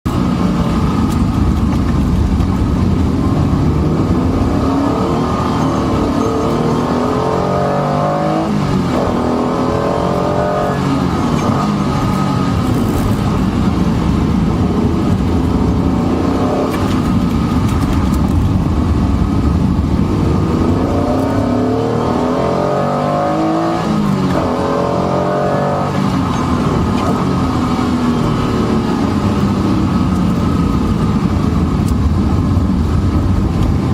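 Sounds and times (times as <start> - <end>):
road noise: 0.0 - 33.9
car engine revving through gears: 0.1 - 33.9.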